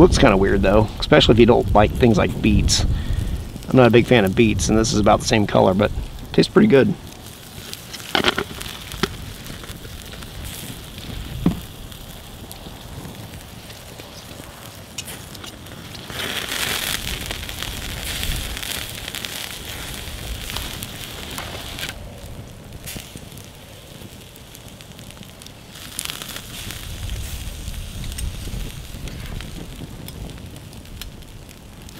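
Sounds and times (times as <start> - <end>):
campfire hissing and crackling: 0.0 - 31.9
sausages sizzling on a grill: 0.0 - 31.9.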